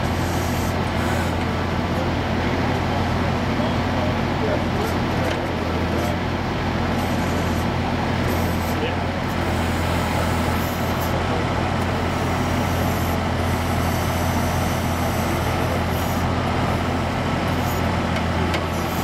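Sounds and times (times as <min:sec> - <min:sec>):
diesel engine humming: 0:00.0 - 0:19.0
hydraulic backhoe digging: 0:00.0 - 0:19.0.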